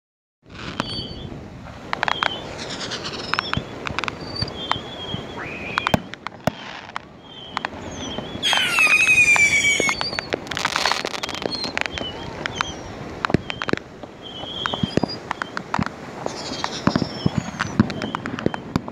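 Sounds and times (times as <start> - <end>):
crackling hiss: 0.4 - 18.9
fireworks pops and bangs: 0.4 - 18.9
firework whistle: 0.6 - 1.4, 2.0 - 18.9.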